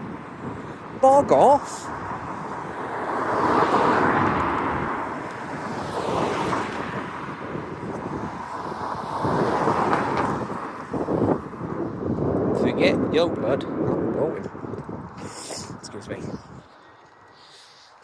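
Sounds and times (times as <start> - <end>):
wind on microphone: 0.0 - 17.4
road traffic passing: 0.0 - 18.0.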